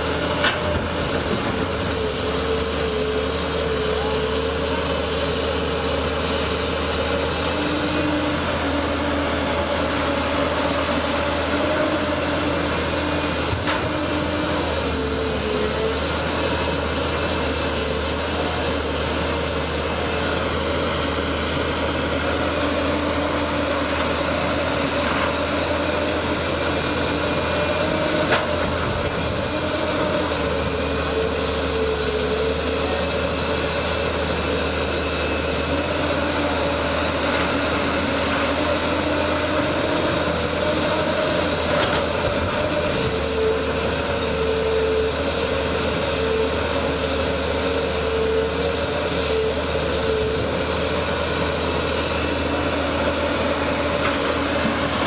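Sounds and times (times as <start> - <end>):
excavator diesel engines: 0.0 - 55.0.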